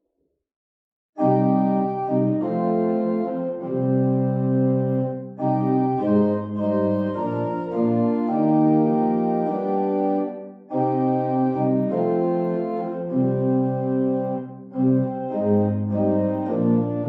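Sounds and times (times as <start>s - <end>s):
organ playing held chords: 1.2s - 17.0s.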